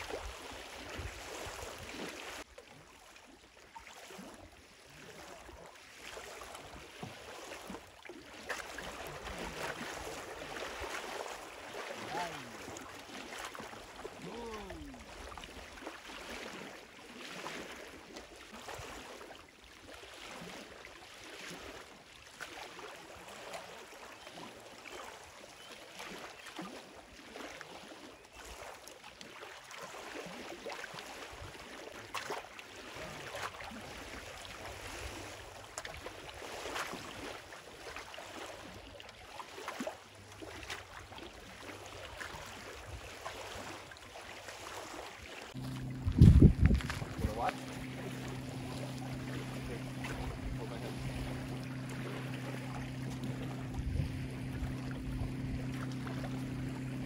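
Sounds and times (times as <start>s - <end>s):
waves lapping against wooden dock: 0.0s - 57.0s.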